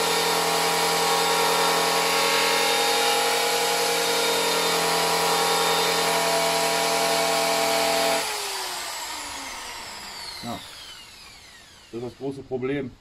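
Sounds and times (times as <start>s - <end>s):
die grinder whining: 0.0s - 12.4s.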